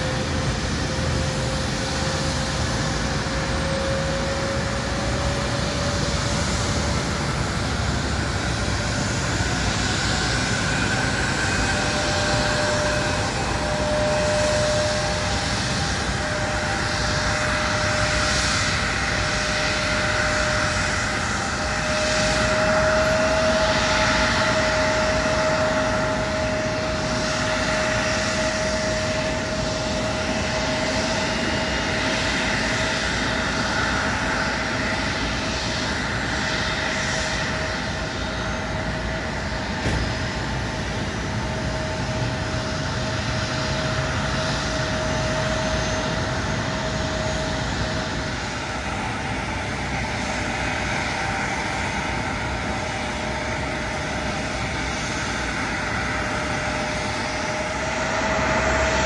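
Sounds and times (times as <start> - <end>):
airliner engines whining: 0.0 - 59.0.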